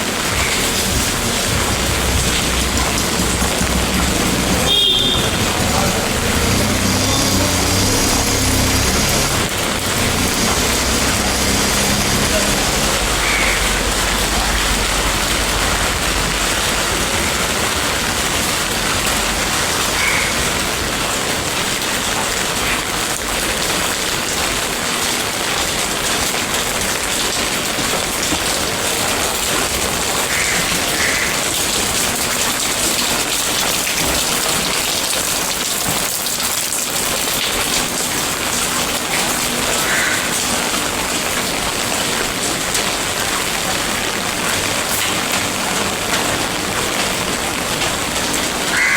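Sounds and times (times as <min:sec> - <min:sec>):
loud rainfall: 0:00.0 - 0:48.9.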